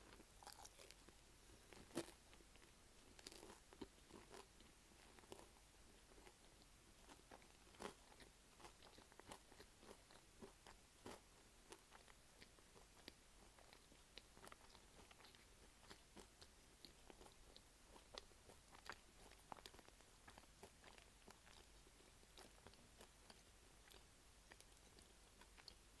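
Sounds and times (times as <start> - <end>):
chewing crunchy pastry: 0.0 - 26.0.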